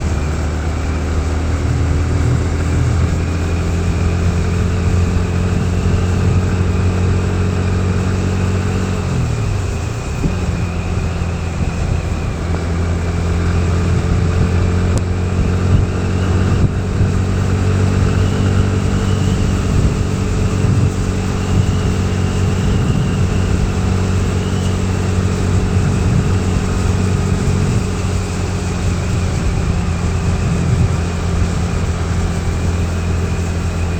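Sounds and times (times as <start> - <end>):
rain hiss on wet road: 0.0 - 33.9
vehicle engine running: 0.0 - 33.9.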